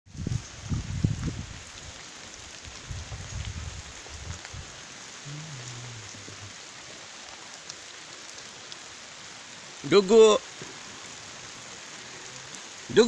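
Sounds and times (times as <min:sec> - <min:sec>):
steady rain falling: 0:00.1 - 0:13.0.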